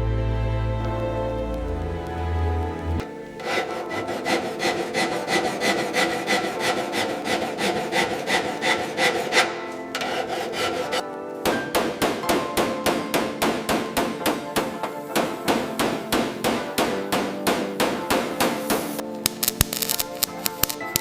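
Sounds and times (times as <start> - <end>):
music: 0.0 - 21.0
hand file rasping: 0.8 - 19.0.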